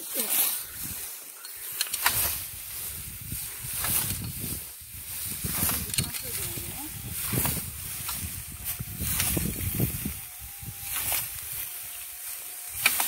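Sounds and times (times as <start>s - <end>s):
dry stalks cut with a sickle: 0.0s - 13.0s.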